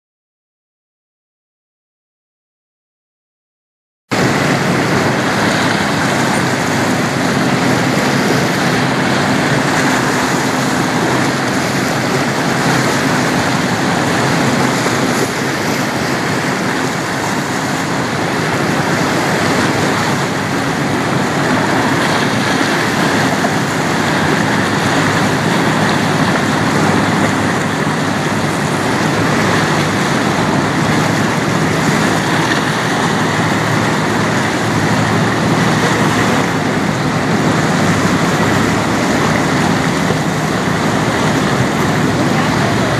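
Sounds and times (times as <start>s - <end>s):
choppy river water: 4.1s - 42.9s
wind: 4.1s - 42.9s.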